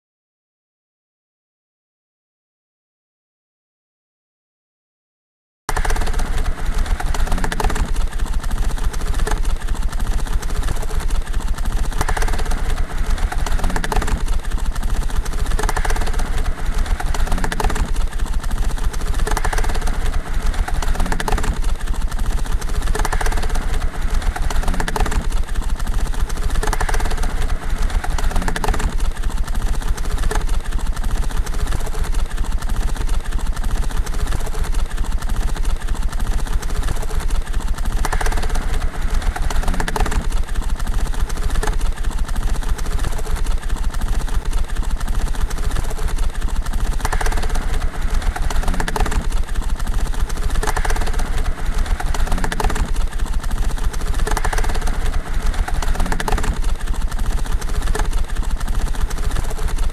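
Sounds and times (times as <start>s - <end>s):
cards flicking in rapid clatter: 5.7s - 59.9s.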